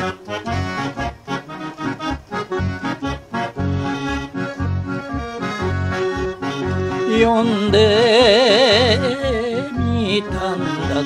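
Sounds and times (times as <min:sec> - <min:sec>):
accordion melody: 0:00.0 - 0:11.0
low bass beat: 0:01.8 - 0:11.0.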